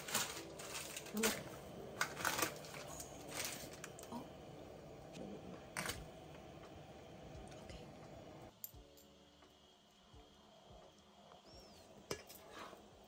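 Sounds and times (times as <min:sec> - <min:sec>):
pot of water boiling: 0:00.0 - 0:07.5, 0:08.2 - 0:13.0.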